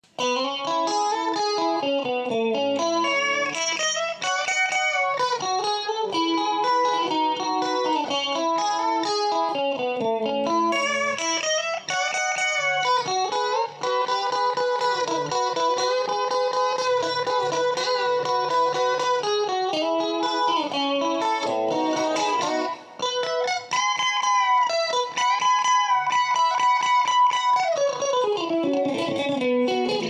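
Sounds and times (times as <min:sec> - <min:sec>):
electric guitar lead line: 0:00.0 - 0:30.0.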